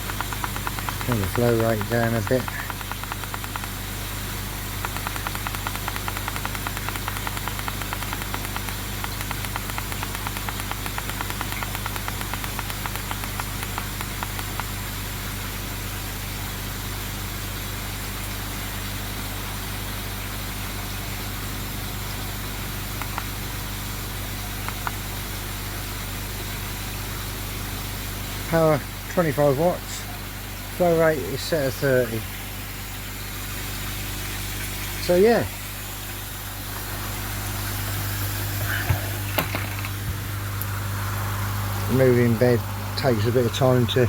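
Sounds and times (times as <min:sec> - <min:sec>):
pond pump electric hum: 0:00.0 - 0:44.0.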